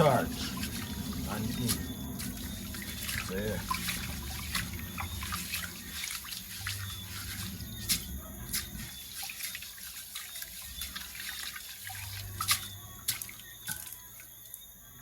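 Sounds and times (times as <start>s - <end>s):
water splashing and swishing: 0.0s - 14.6s.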